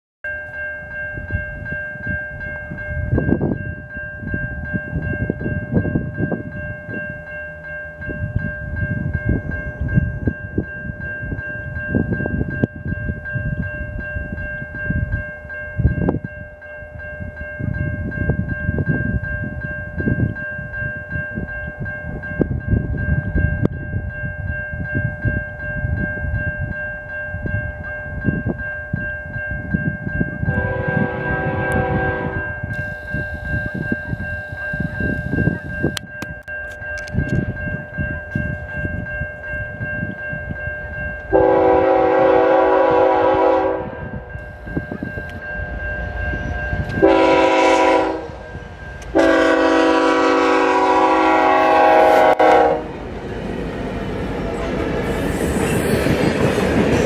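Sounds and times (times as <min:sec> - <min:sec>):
railway crossing bell ringing: 0:00.2 - 0:57.0
wind buffeting microphone: 0:00.9 - 0:57.0.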